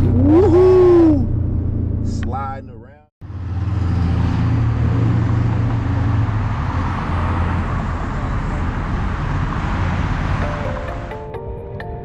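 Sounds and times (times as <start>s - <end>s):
car engine running: 0.0s - 11.2s.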